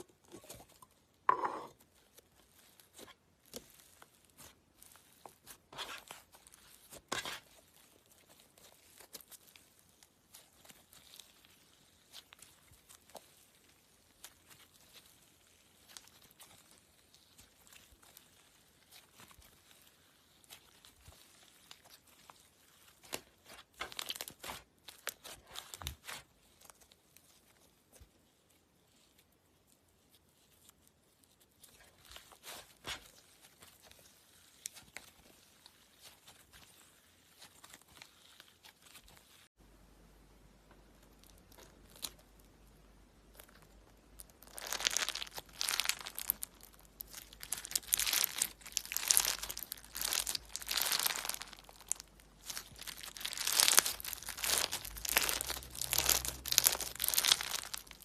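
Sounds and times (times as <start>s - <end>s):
slime crackling and popping: 0.0s - 27.7s, 30.3s - 39.5s, 41.0s - 42.6s, 43.2s - 58.0s.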